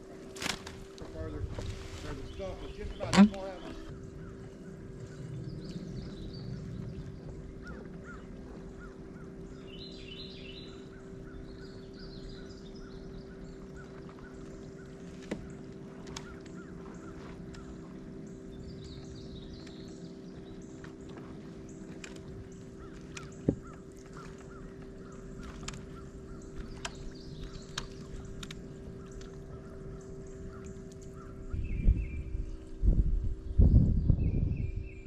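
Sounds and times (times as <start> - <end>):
steady low hum: 0.0 - 35.0
birds calling and chirping: 1.0 - 35.0.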